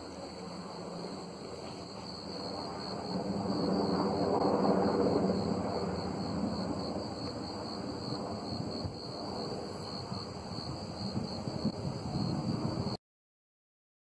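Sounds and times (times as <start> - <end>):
helicopter flying overhead: 0.0 - 13.0
insects chirring: 0.0 - 13.0.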